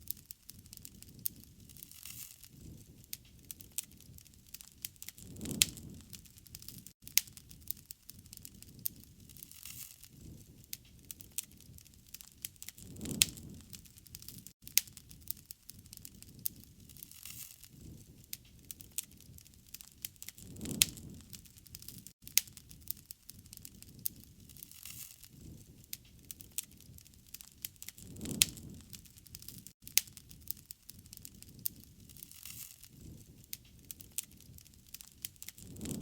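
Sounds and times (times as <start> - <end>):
low rumble of flames: 0.0 - 36.0
wood fire crackling and popping: 0.0 - 36.0.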